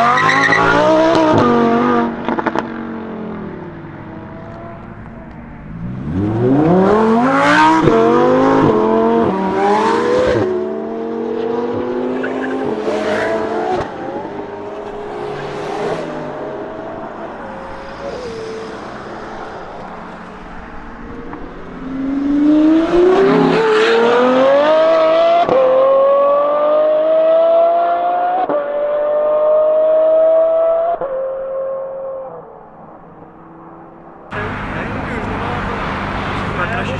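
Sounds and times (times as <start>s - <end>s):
sports car engine accelerating: 0.0s - 32.7s, 33.4s - 36.9s.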